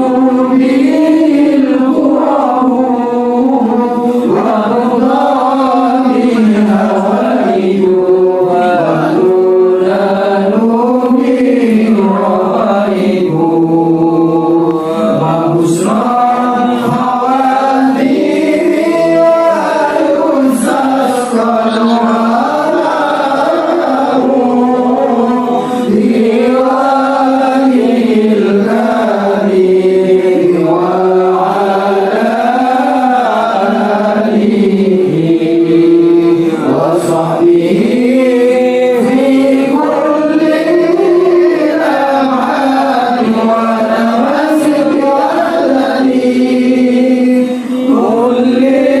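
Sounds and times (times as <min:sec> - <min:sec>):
chanting with long held notes: 0:00.0 - 0:49.0.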